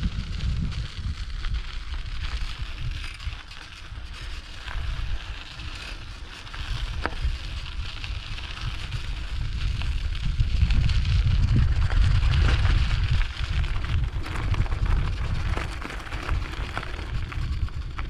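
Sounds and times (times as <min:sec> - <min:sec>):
bicycle tyres crackling over ground: 0:00.0 - 0:18.0
wind rumble on microphone: 0:00.0 - 0:18.0.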